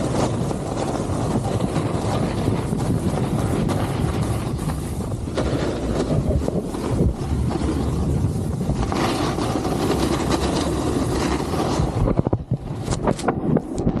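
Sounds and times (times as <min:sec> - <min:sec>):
snowboard scraping over snow: 0:00.0 - 0:14.0
wind buffeting microphone: 0:00.0 - 0:14.0.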